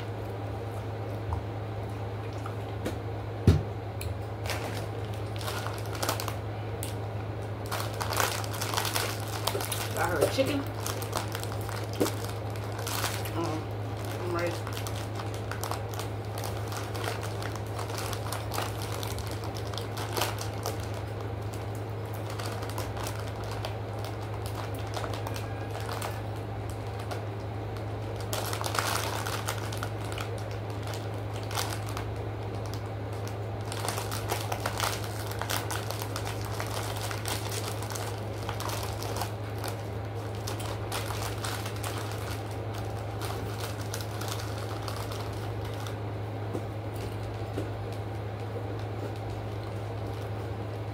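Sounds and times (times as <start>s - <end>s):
steady low hum: 0.0s - 50.9s
food wrapper crinkling and rustling: 4.2s - 50.9s.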